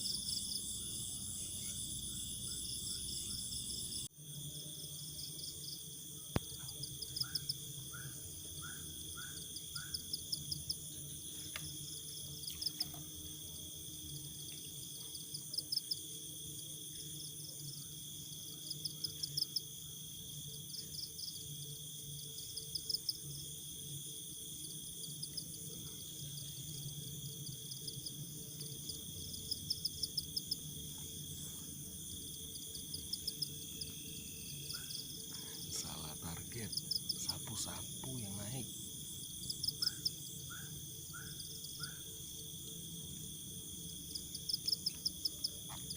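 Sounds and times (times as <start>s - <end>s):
crickets trilling: 0.0s - 45.9s
steady high insect buzz: 0.0s - 45.9s.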